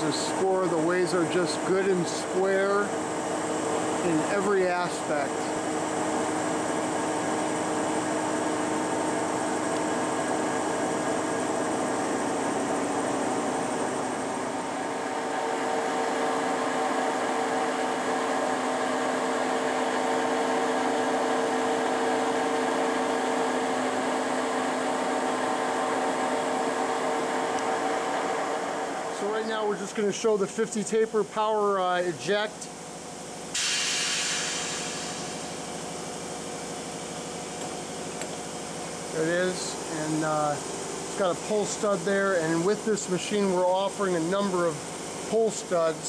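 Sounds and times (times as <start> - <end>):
boring mill mechanical hum: 0.0 - 46.0.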